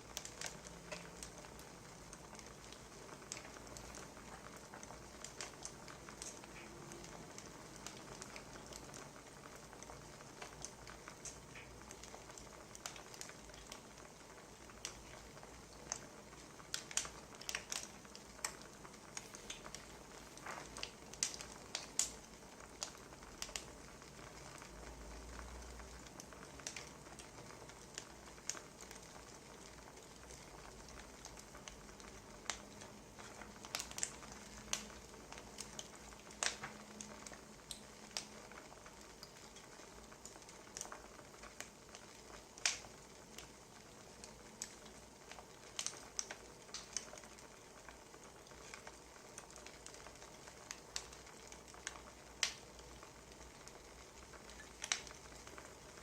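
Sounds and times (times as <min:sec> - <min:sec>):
soft steady hiss: 0:00.0 - 0:56.0
wood fire crackling and popping: 0:00.0 - 0:56.0.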